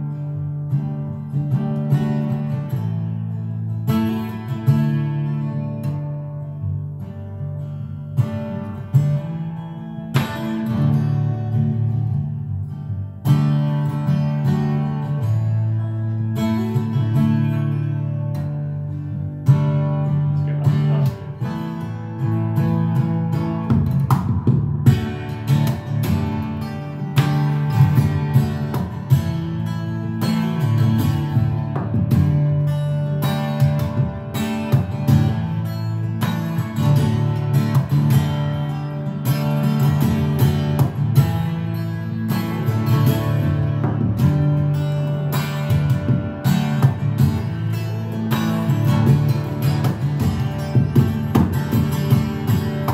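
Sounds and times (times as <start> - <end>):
fingerstyle acoustic guitar: 0.0 - 52.9.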